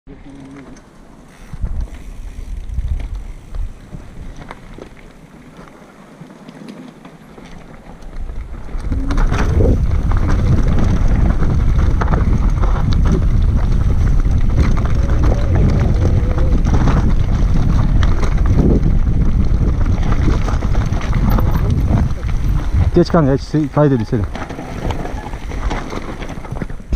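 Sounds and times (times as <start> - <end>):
bike rattling: 0.1 - 26.9
wind buffeting microphone: 1.3 - 5.1, 8.0 - 26.9
tyres crunching over stones: 2.8 - 26.9.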